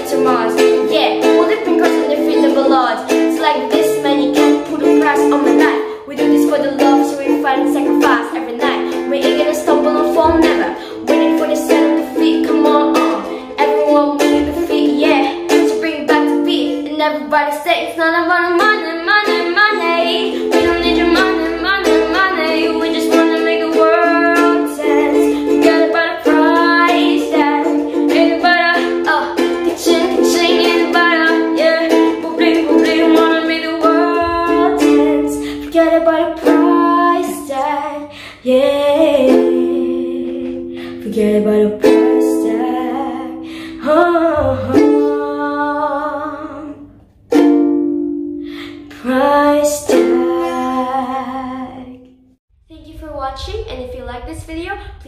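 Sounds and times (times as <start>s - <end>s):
girl singing: 0.0s - 47.1s, 48.2s - 55.0s
ukulele strumming: 0.0s - 52.0s.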